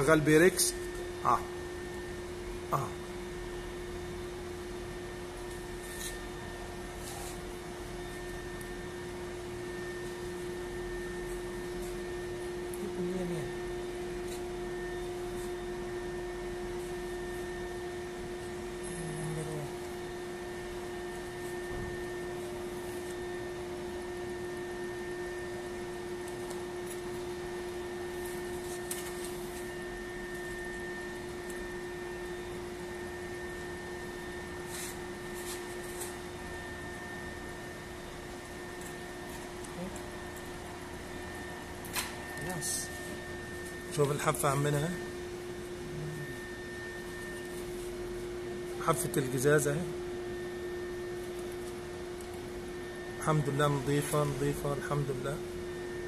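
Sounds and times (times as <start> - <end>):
thermal cutter humming: 0.0 - 56.0.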